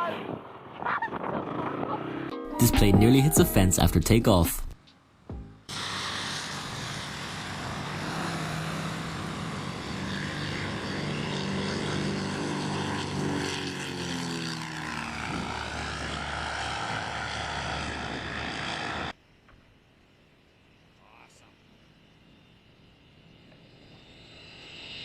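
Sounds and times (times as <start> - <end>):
propeller aircraft engine drone: 2.6 - 25.0.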